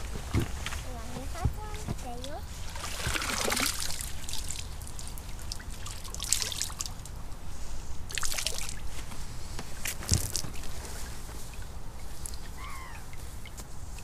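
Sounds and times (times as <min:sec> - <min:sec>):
water trickling and splashing: 0:00.3 - 0:09.1, 0:09.7 - 0:14.0.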